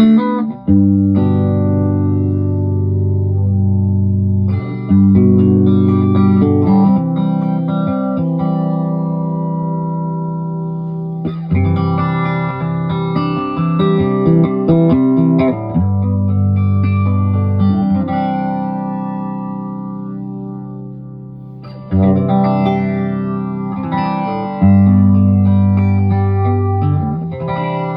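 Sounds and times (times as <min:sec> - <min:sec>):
electric guitar with flanger: 0:00.0 - 0:27.9.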